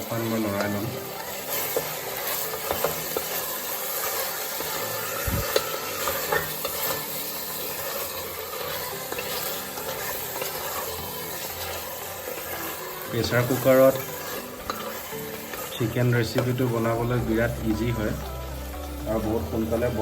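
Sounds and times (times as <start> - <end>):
chicken sizzling in a pot: 0.0 - 20.0
spoon scraping a pot: 0.6 - 16.8.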